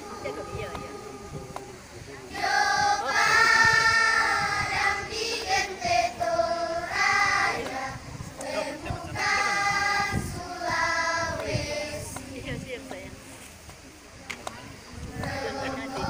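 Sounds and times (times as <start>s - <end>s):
children singing together: 0.0s - 12.4s, 15.0s - 16.0s.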